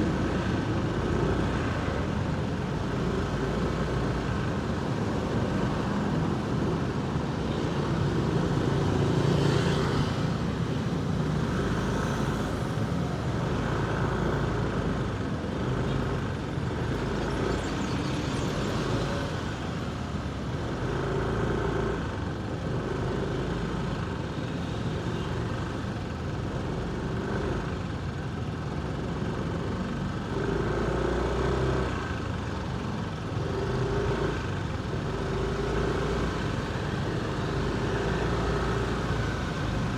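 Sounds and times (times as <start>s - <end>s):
road traffic noise: 0.0s - 39.9s.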